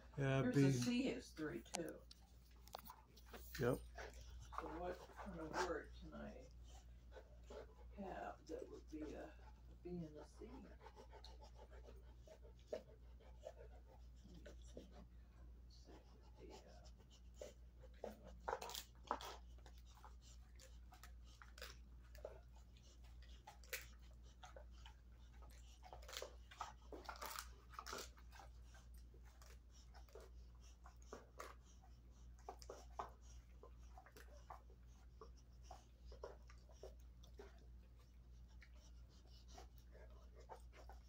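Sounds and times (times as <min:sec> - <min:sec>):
dog gnawing on a chew: 0:00.6 - 0:08.0, 0:08.6 - 0:41.0.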